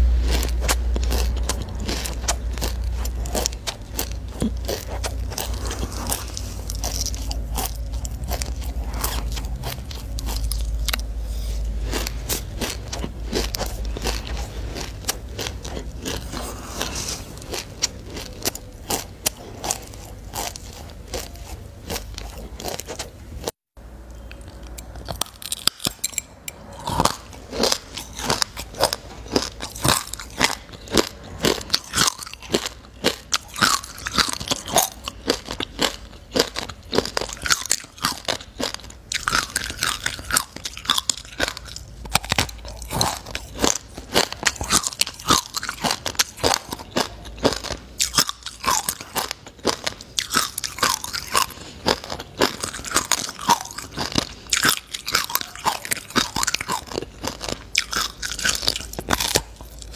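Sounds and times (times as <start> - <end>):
chewing crunchy seeds: 0.0 - 59.9.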